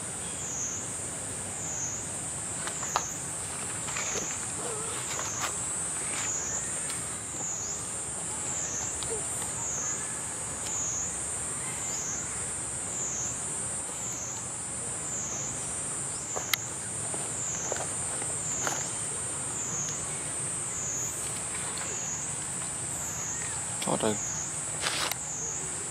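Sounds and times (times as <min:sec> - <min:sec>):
cicadas buzzing: 0:00.0 - 0:25.9.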